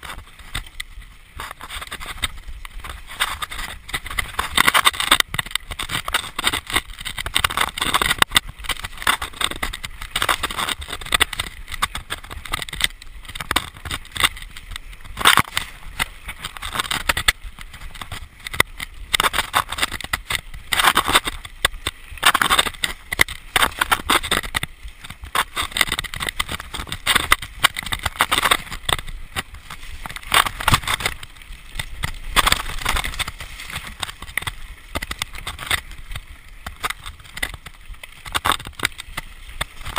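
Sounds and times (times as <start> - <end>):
bike clattering over rocks: 0.0 - 39.9
bike tyres rolling on dirt trail: 0.0 - 39.9.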